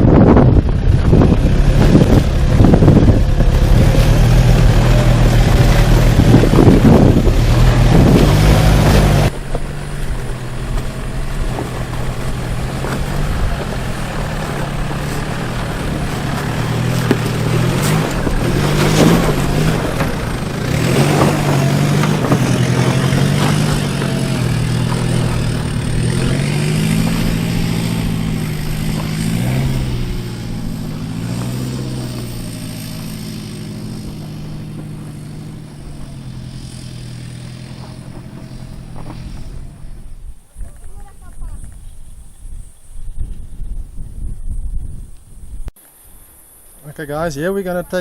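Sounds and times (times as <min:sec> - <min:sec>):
wind rumble on microphone: 0:00.0 - 0:36.5, 0:38.2 - 0:45.8
off-road vehicle engine at low revs: 0:00.0 - 0:45.8.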